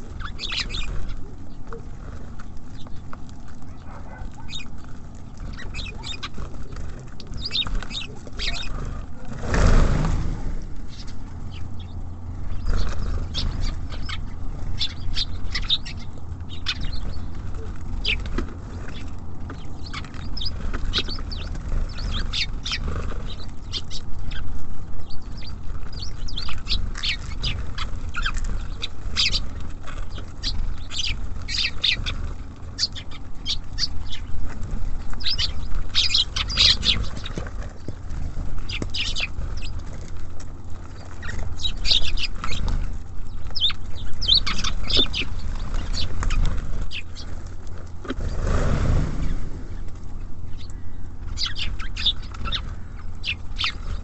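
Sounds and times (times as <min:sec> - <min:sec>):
songbirds chirping: 0:00.0 - 0:54.0
steady low rumble: 0:00.0 - 0:54.0.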